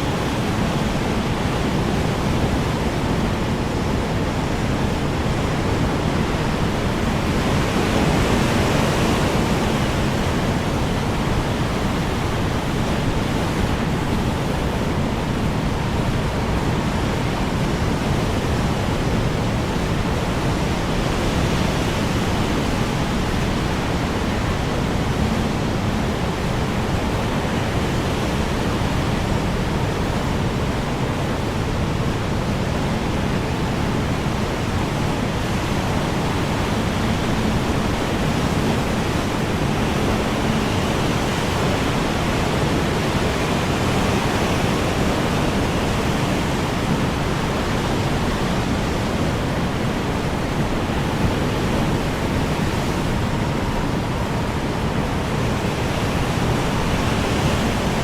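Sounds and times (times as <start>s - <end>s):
strong wind blowing: 0.0s - 58.0s.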